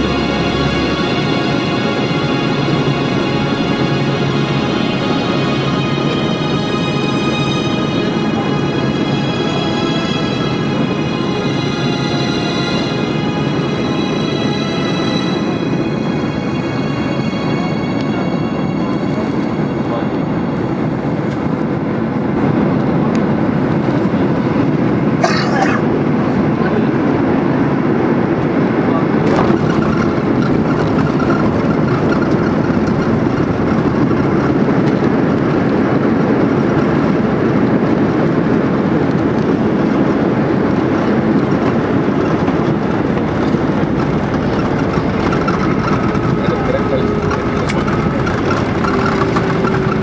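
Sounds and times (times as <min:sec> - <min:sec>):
jet engines and rushing air: 0:00.0 - 0:50.0.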